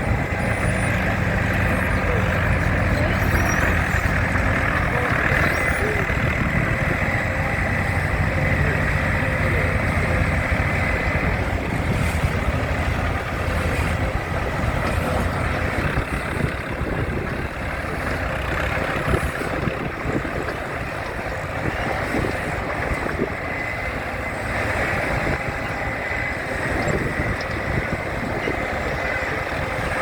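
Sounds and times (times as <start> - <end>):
diesel tractor engine rumbling: 0.0 - 30.0.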